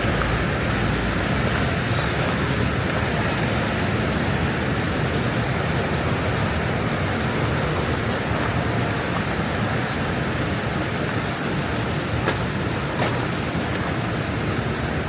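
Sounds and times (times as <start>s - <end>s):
fast-flowing water rushing: 0.0s - 15.0s.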